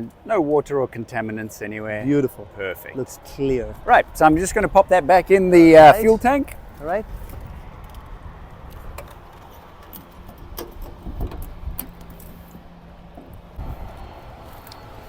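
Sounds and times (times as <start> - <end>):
distant background noise: 0.0 - 15.0
wind rumble: 2.1 - 15.0.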